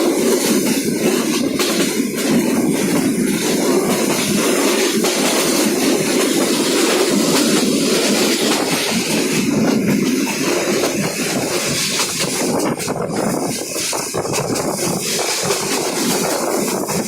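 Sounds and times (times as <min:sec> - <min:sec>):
train rushing noise: 0:00.0 - 0:17.0.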